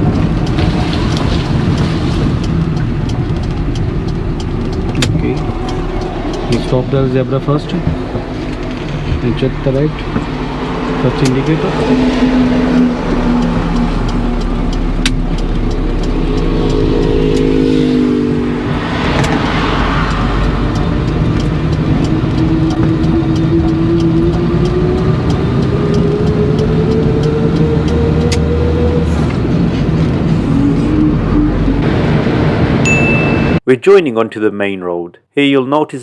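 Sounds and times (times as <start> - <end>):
turn indicator ticking: 0.0 - 30.3
car engine accelerating: 0.0 - 33.1.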